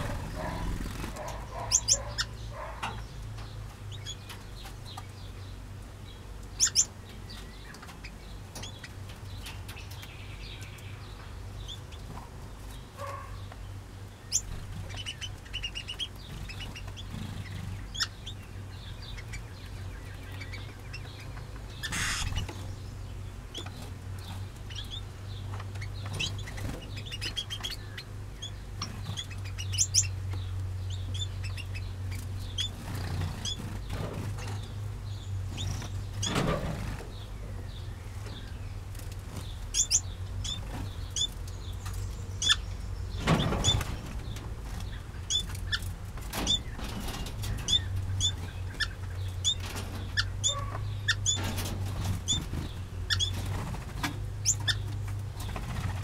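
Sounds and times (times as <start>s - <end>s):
finches and parrots chirping: 0.0s - 56.0s
steady low hum: 0.0s - 56.0s.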